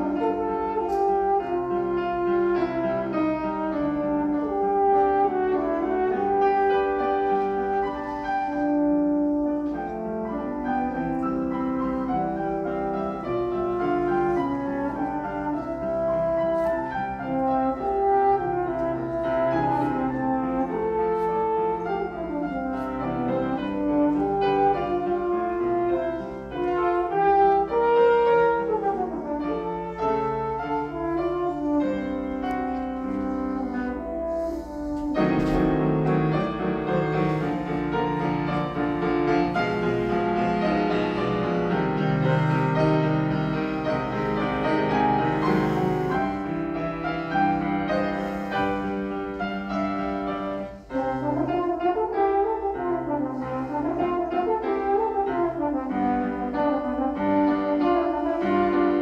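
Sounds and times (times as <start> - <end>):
french horn melody: 0.0 - 59.0
piano accompaniment: 0.0 - 59.0.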